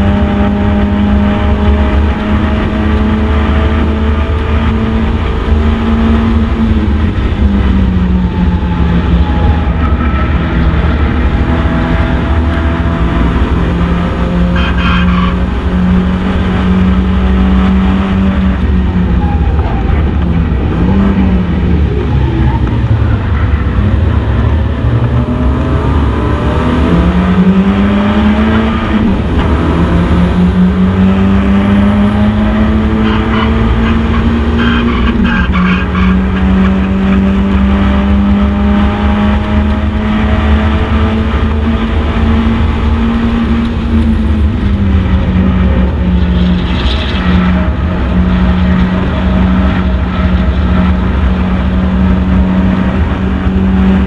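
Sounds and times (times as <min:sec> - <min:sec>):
race car engine at high revs: 0:00.0 - 0:54.0
road and wind noise: 0:00.0 - 0:54.0.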